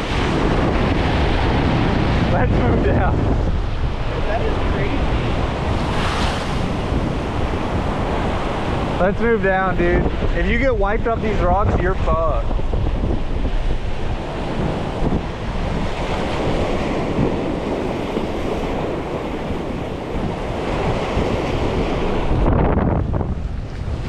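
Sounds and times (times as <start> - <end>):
surf washing against rocks: 0.0 - 24.0
wind buffeting microphone: 0.0 - 24.0.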